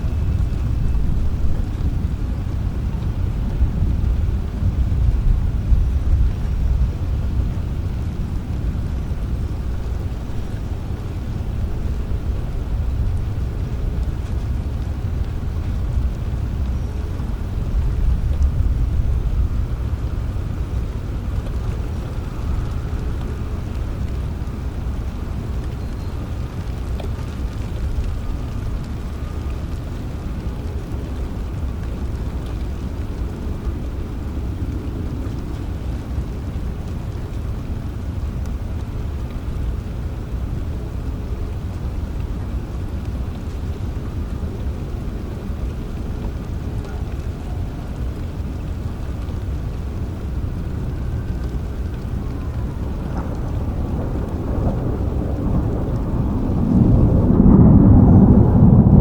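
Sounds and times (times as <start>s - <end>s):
distant thunder rumbling: 0.0s - 36.8s, 37.4s - 59.0s
rain: 0.0s - 59.0s.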